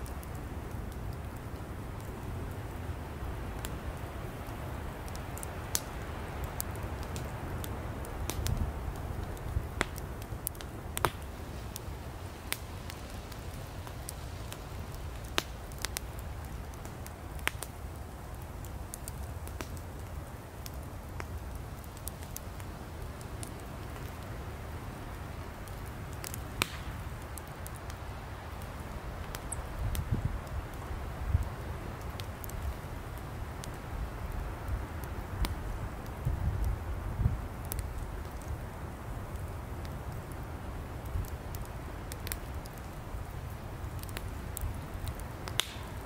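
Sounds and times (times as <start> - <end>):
fire crackling and popping: 0.0 - 46.0
low rush of flame: 0.0 - 46.0.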